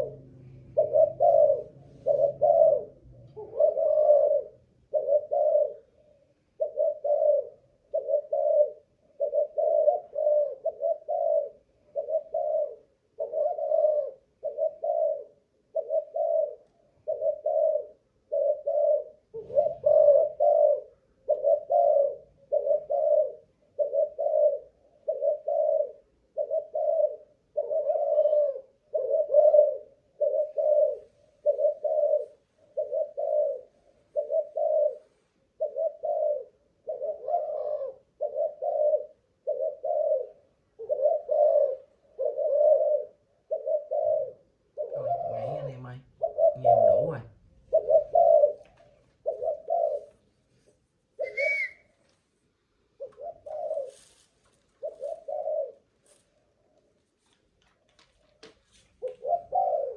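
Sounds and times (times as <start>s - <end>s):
dove cooing: 0.0s - 56.8s, 58.4s - 59.9s.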